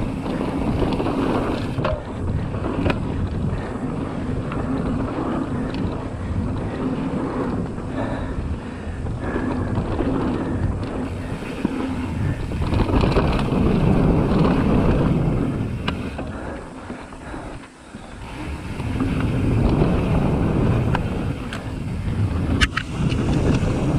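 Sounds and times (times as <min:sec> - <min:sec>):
bike clicks and rattles: 0:00.0 - 0:23.9
bike tyres on dirt: 0:00.0 - 0:23.9
wind buffeting microphone: 0:00.0 - 0:23.9.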